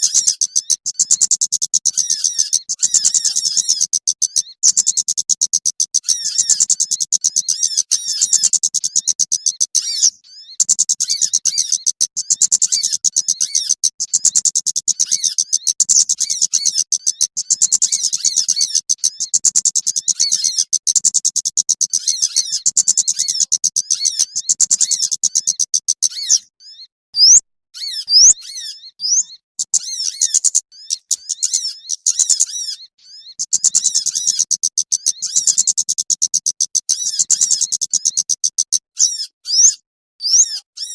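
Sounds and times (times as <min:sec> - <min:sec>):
rapid high-pitched bird chirping: 0:00.0 - 0:40.9.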